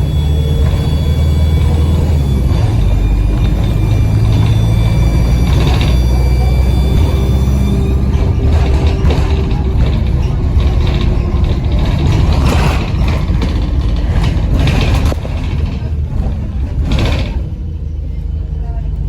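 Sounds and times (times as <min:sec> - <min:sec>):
bus diesel engine rumbling: 0:00.0 - 0:19.0.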